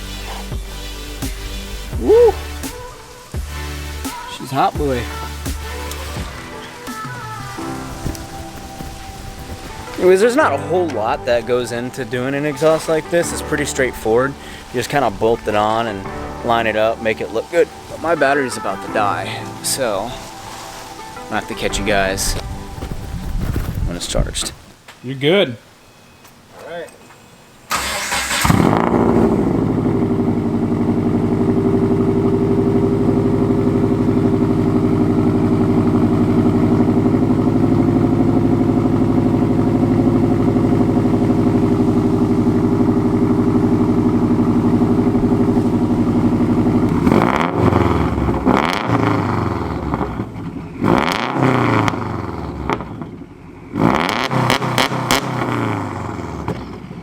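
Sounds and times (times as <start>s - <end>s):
car engine revving: 0.0s - 22.8s, 27.7s - 57.0s
car engine starting and idling: 0.0s - 22.8s, 27.4s - 57.0s.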